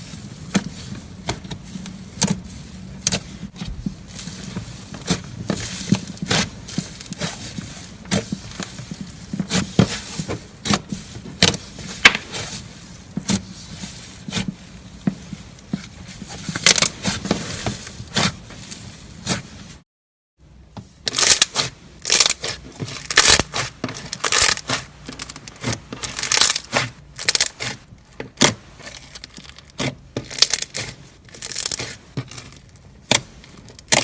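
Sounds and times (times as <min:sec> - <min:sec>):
crisp crunchy crackling: 0:00.0 - 0:19.6, 0:21.1 - 0:34.0.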